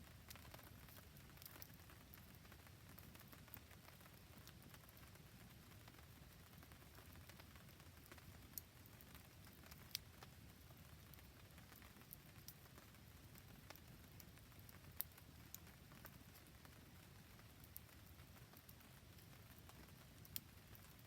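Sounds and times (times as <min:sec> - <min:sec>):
faint steady rain: 0:00.0 - 0:21.0
campfire ticks and pops: 0:00.1 - 0:21.0.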